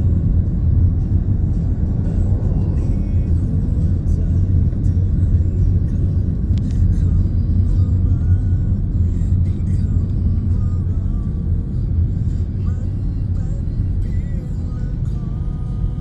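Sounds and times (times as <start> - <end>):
car cabin road and engine rumble: 0.0 - 16.0
music playing: 0.0 - 16.0.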